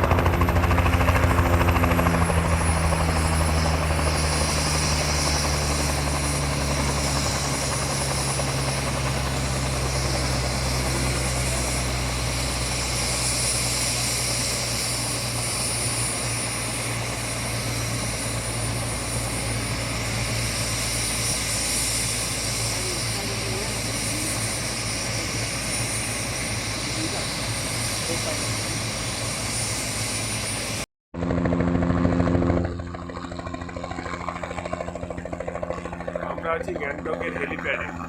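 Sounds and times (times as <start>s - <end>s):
helicopter rotor beat: 0.0s - 38.0s
high turbine whine: 0.0s - 38.0s.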